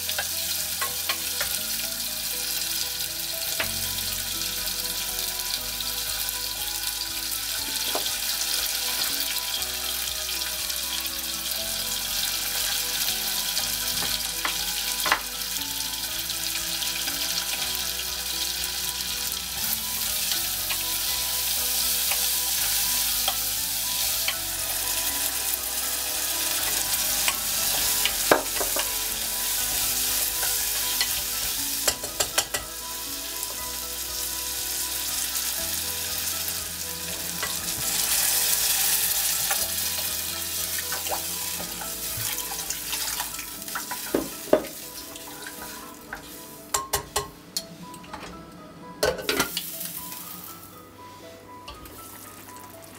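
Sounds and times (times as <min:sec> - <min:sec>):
food sizzling in oil: 0:00.0 - 0:47.3, 0:49.4 - 0:50.8.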